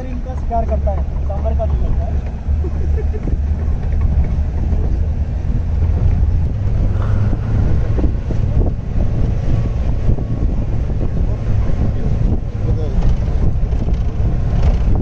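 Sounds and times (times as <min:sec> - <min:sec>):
vehicle engine and tyre rumble: 0:00.0 - 0:15.0
wind buffeting microphone: 0:00.0 - 0:15.0.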